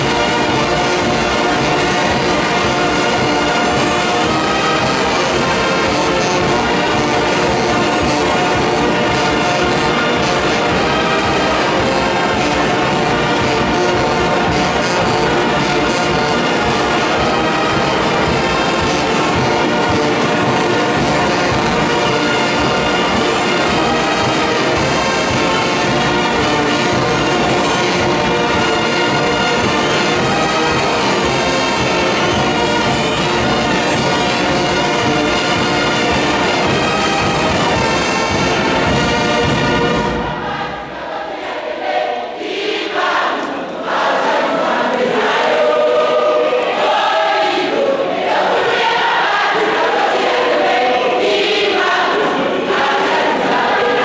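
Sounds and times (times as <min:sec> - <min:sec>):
marching brass band playing: 0:00.0 - 0:43.3, 0:43.9 - 0:54.0.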